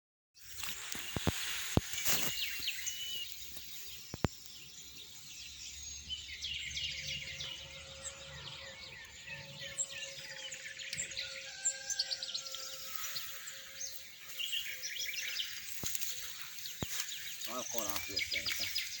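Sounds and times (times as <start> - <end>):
bird chicks chirping: 0.6 - 19.0.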